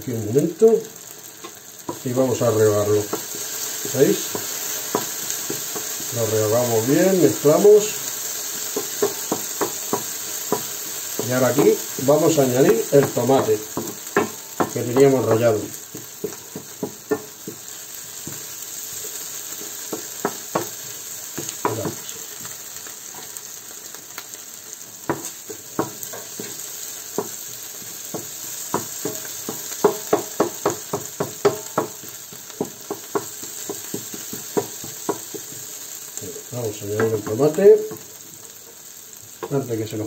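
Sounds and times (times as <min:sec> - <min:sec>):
food sizzling in a pan: 0:00.0 - 0:40.0.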